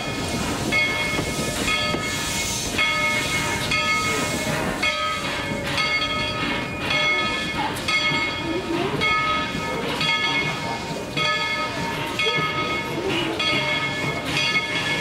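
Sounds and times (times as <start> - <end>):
locomotive bell ringing: 0.0 - 15.0.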